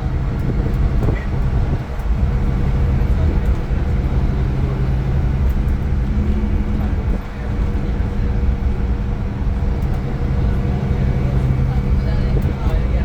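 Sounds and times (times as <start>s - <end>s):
diesel bus engine drone: 0.0s - 13.0s.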